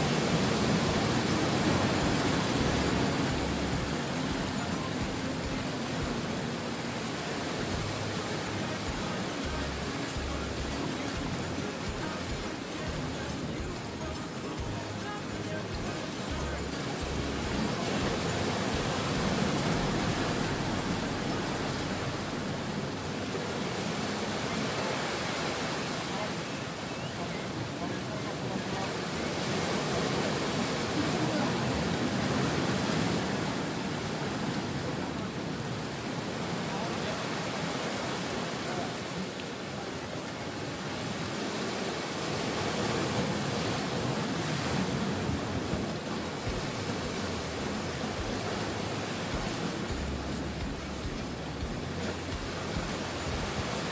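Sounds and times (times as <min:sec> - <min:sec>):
sea surf on rocky shore: 0:00.0 - 0:53.9.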